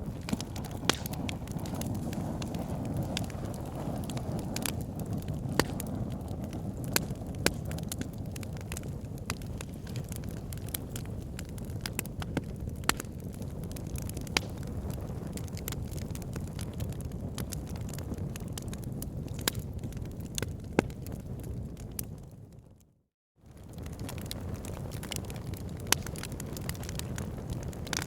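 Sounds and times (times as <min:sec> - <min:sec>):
logs crackling and popping: 0:00.0 - 0:22.8, 0:23.5 - 0:28.0
fire flames rumbling: 0:00.0 - 0:28.0.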